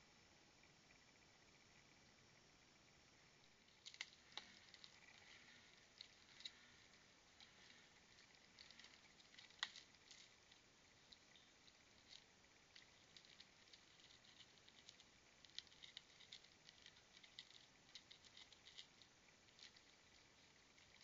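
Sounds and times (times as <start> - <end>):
claws scratching on bark and feeder: 3.5 - 21.0.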